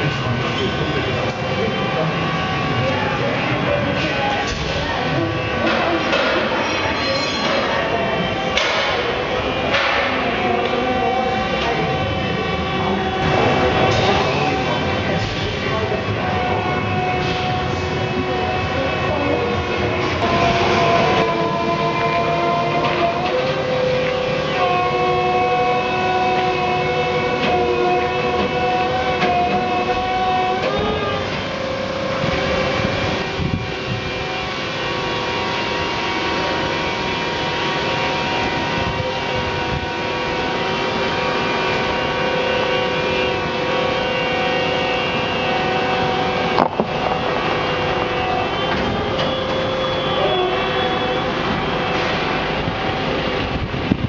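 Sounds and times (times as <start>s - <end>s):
transport trolley mechanical whine: 0.0s - 54.0s.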